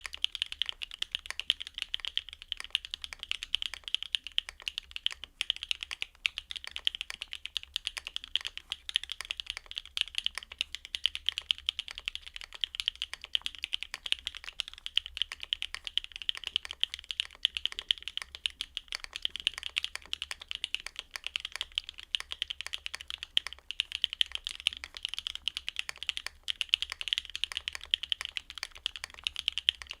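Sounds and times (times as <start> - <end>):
mechanical keyboard typing: 0.0 - 30.0.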